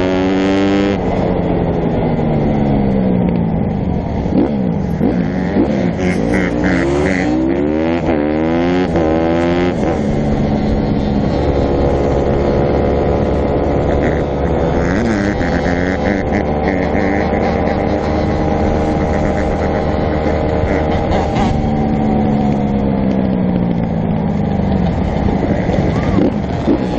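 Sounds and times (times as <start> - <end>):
dirt bike engines revving: 0.0 - 26.9.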